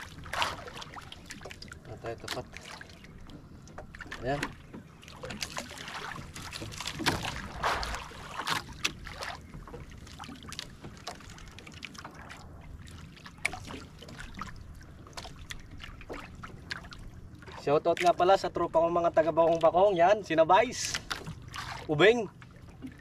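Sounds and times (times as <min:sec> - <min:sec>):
water splashing against boat hull: 0:00.0 - 0:23.0.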